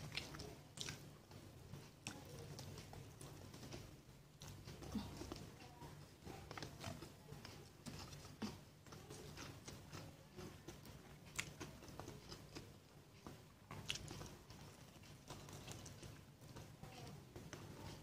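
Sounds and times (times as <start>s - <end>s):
chewing and biting: 0.0s - 18.0s.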